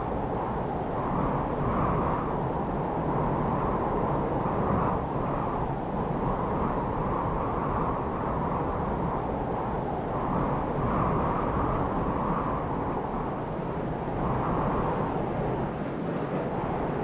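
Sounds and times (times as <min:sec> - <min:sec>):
gusting wind: 0:00.0 - 0:17.0.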